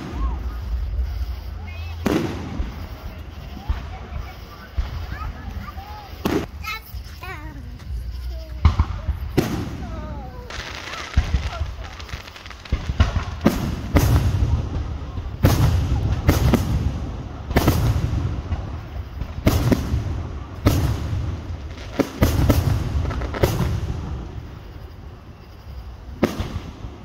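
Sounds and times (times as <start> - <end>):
fireworks bursting with bangs: 0.0 - 27.0.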